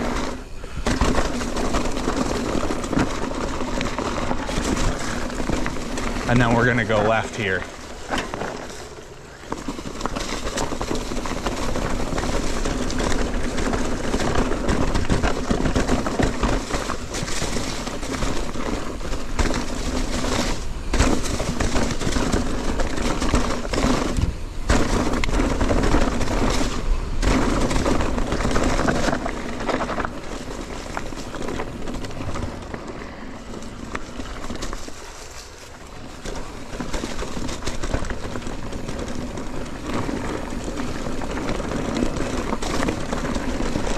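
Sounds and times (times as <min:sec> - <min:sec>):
bike rattling: 0:00.0 - 0:43.9
tyres on dirt: 0:00.0 - 0:43.9.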